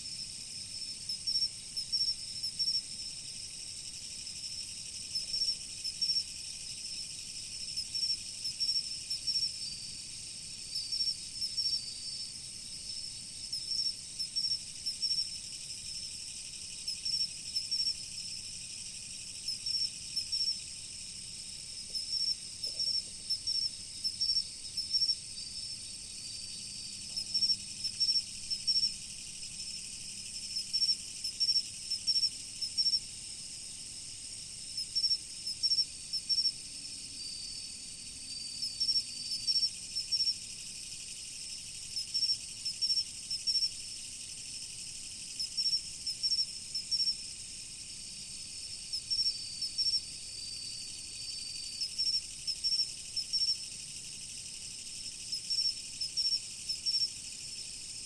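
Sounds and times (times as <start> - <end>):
cricket chirps: 0.0 - 58.0
crickets trilling: 0.0 - 58.0.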